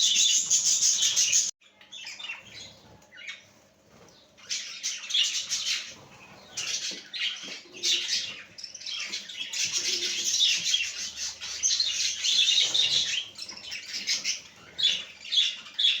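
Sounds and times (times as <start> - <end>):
parrots chirping and chattering: 0.0 - 16.0.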